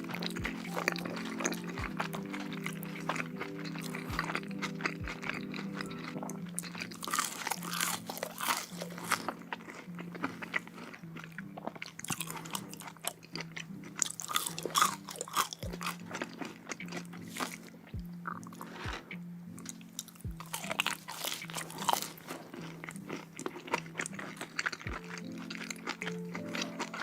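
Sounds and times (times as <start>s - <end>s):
crunchy food crunching and chewing: 0.0s - 27.0s
quiet background music: 0.0s - 27.0s.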